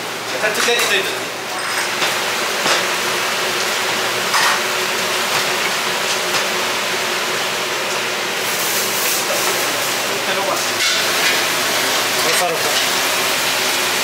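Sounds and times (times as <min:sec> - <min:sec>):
rushing kitchen background noise: 0:00.0 - 0:14.0.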